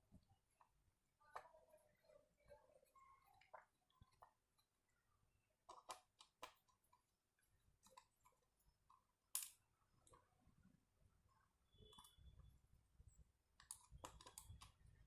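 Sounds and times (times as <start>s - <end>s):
small parts clicking and tapping: 0.1s - 4.9s, 5.5s - 10.4s, 11.3s - 15.0s.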